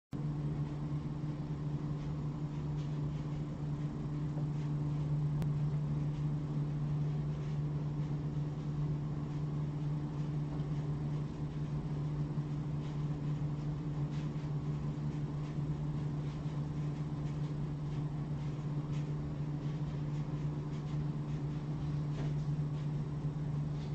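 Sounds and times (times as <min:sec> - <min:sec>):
low machine hum: 0:00.2 - 0:23.9.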